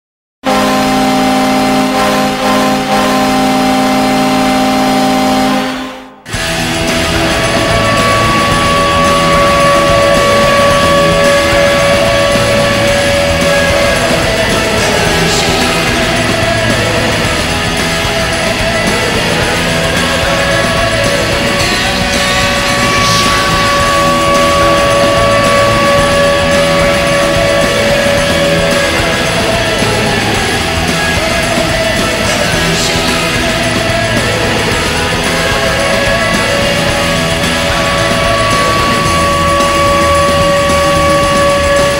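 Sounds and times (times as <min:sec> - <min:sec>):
hard rock with electric guitar: 0:00.5 - 0:41.9
long steady tone: 0:00.5 - 0:41.9.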